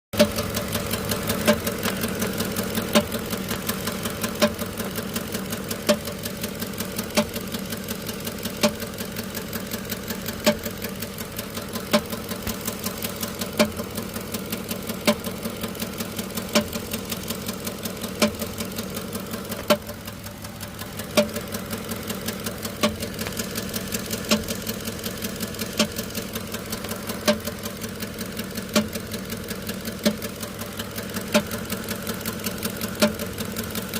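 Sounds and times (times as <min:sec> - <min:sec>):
engine clanking: 0:00.2 - 0:33.9
engine idling: 0:00.2 - 0:33.9.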